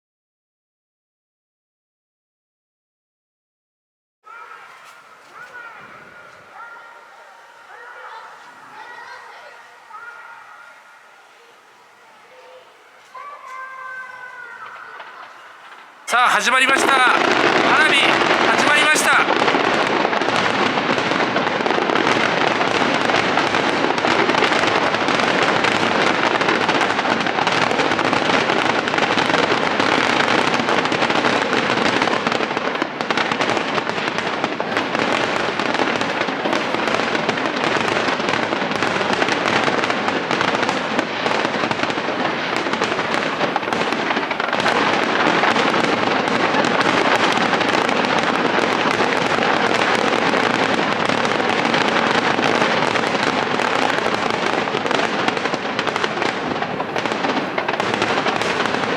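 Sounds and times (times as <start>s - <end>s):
fireworks bursting: 4.3s - 58.9s.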